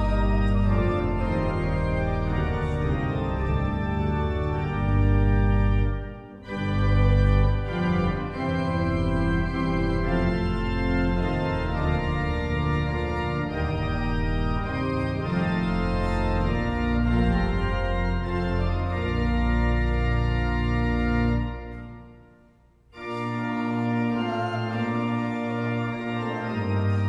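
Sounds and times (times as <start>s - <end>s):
church organ playing a hymn: 0.0s - 27.0s.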